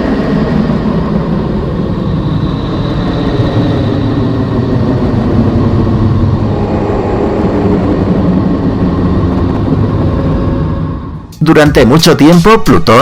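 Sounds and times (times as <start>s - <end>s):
dense low drone: 0.0s - 12.5s.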